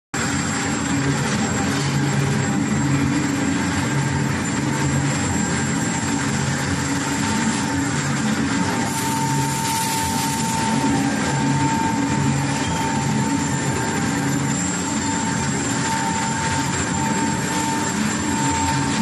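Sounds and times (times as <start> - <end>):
woodworking machinery hum: 0.2 - 19.0.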